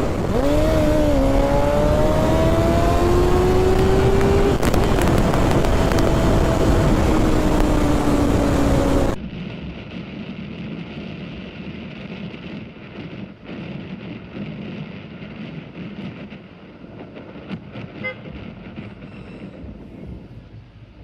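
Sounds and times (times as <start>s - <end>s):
vehicle engine and road noise: 0.0s - 21.0s
wind on microphone: 0.0s - 21.0s.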